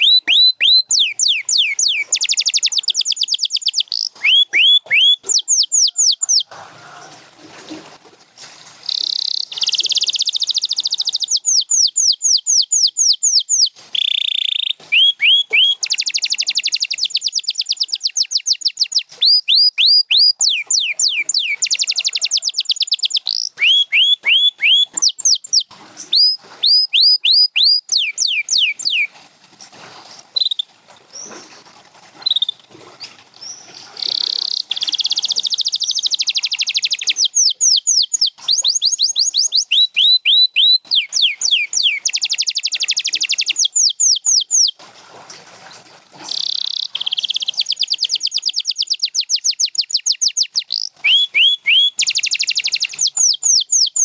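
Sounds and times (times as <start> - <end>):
canary singing: 0.0 - 7.2, 8.9 - 29.1, 32.3 - 44.8, 46.3 - 54.0.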